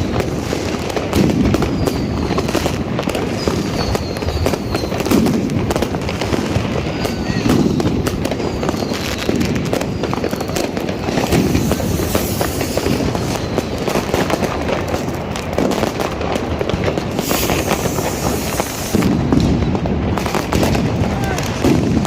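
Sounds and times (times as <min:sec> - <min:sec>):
fireworks and firecrackers banging: 0:00.0 - 0:22.0
whistling rockets: 0:00.0 - 0:22.0.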